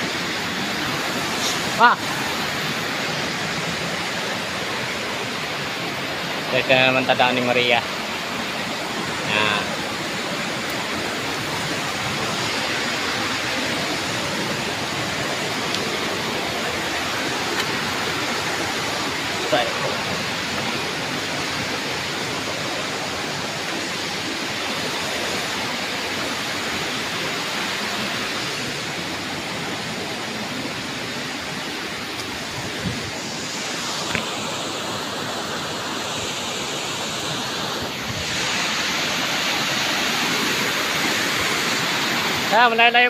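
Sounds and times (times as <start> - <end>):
waterfall rushing into pool: 0.0 - 43.0.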